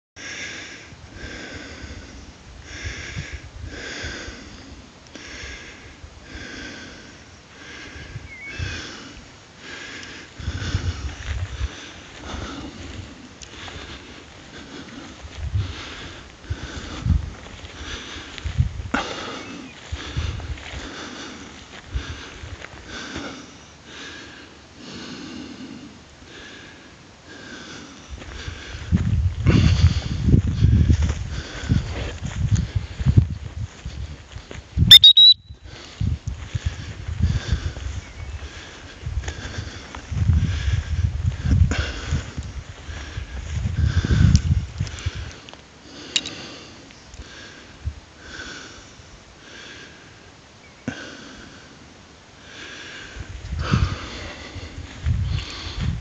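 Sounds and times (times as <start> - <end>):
heavy rhythmic breathing: 0.2 - 34.6, 35.6 - 56.0.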